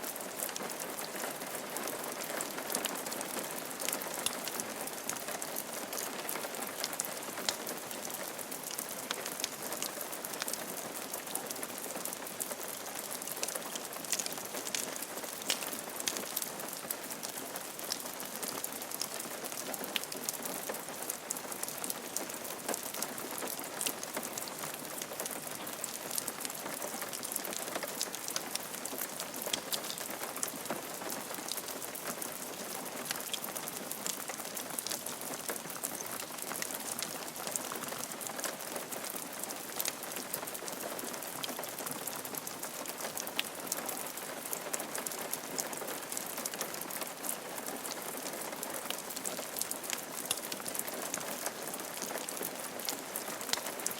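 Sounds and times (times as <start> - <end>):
rain on a roof: 0.0 - 53.9.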